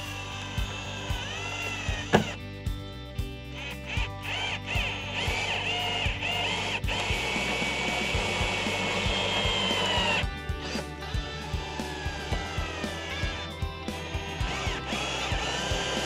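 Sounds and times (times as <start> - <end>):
background music with steady beat: 0.0 - 16.0
electric driver motor whining: 0.0 - 16.0.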